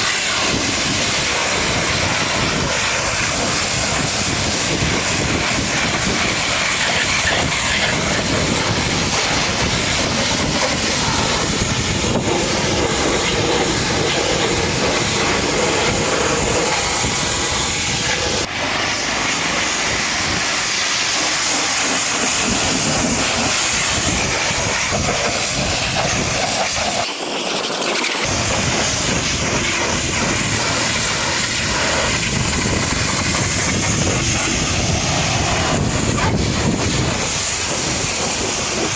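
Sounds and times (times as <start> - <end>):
pressure washer spraying water: 0.0 - 38.9.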